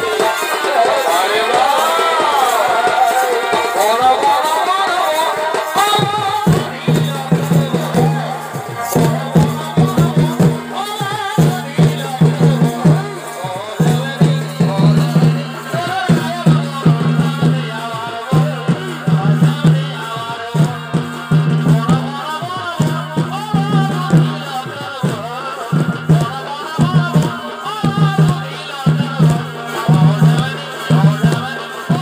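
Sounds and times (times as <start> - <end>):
fast drumming: 0.0 - 32.0
shehnai melody: 0.0 - 32.0.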